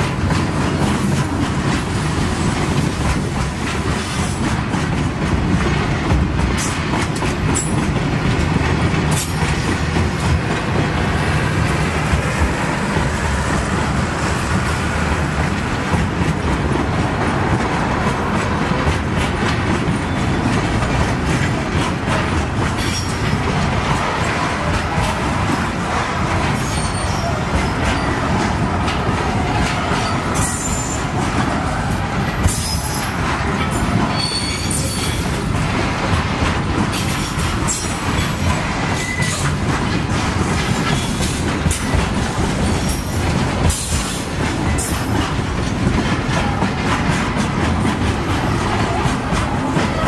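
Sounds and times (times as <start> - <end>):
freight train wagons rolling past: 0.0 - 50.0
steel wheels clattering over rail joints: 0.0 - 50.0.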